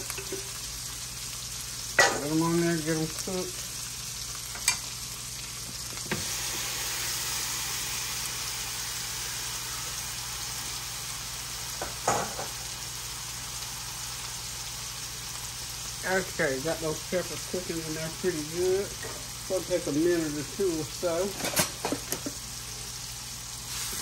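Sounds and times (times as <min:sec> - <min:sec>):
peppers sizzling in hot oil: 0:00.0 - 0:24.0.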